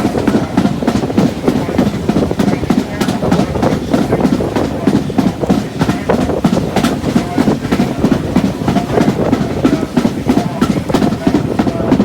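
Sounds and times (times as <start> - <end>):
railway carriage rumbling on track: 0.0 - 12.0
wheels clattering: 0.0 - 12.0.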